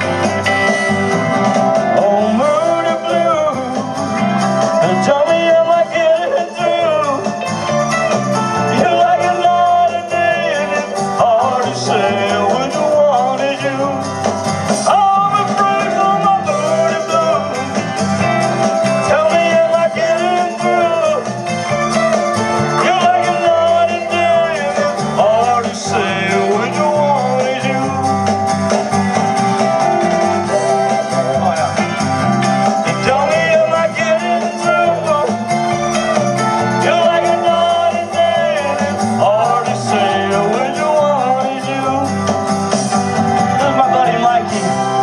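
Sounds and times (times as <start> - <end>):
rock and roll music over speaker: 0.0 - 45.0.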